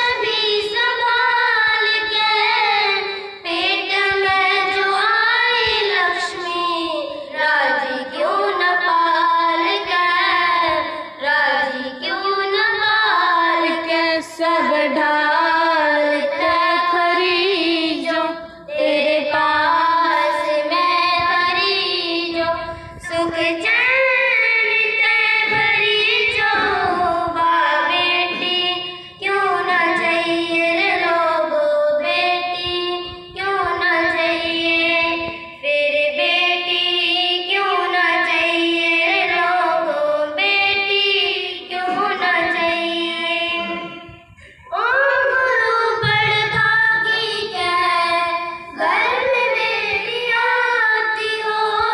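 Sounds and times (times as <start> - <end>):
girls singing into microphones: 0.0 - 51.9.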